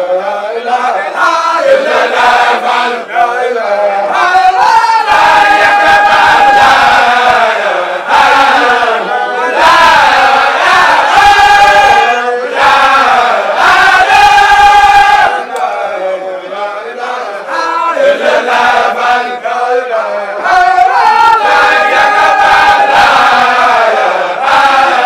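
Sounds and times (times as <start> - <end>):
group of voices chanting: 0.0 - 25.0.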